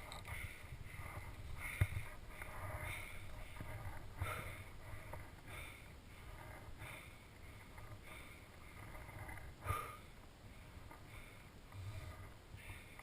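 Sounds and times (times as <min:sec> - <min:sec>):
heavy breathing: 0:00.0 - 0:13.0.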